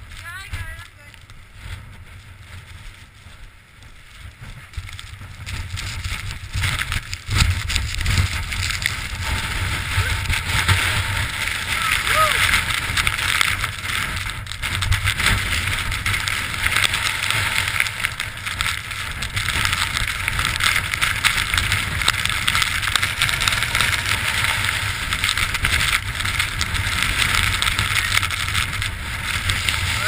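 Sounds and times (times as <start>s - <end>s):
wind blowing over microphone: 0.0s - 30.0s.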